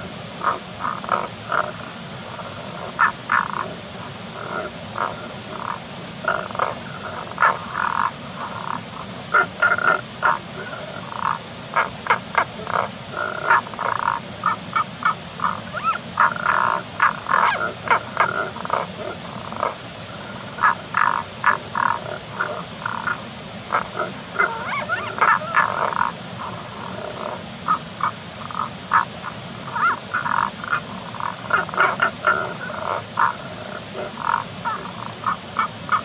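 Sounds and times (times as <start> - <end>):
frogs croaking: 0.0 - 36.0.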